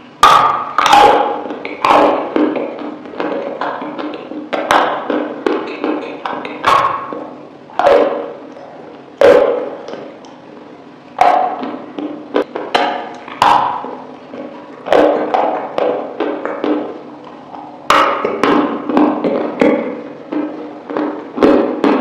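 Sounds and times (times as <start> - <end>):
mouth clicks: 0.2 - 10.4, 11.2 - 22.0.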